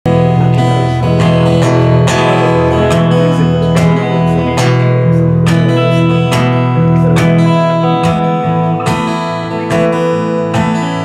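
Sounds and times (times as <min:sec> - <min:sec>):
strummed guitar chords: 0:00.0 - 0:11.0
low bass line: 0:00.1 - 0:10.7.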